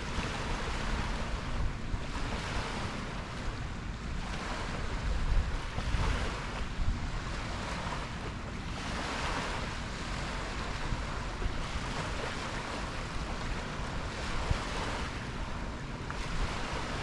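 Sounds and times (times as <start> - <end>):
ocean surf: 0.0 - 17.0
wind rumbling on microphone: 0.0 - 17.0.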